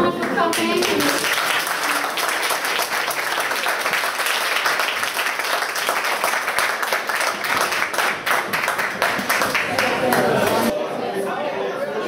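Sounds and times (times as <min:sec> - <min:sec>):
audience applauding: 0:00.2 - 0:10.7.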